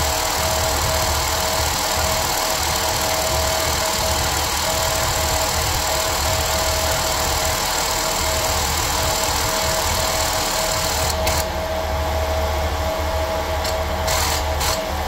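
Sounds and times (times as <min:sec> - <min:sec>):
hydraulic pump motor whining: 0:00.0 - 0:11.9, 0:13.4 - 0:15.0.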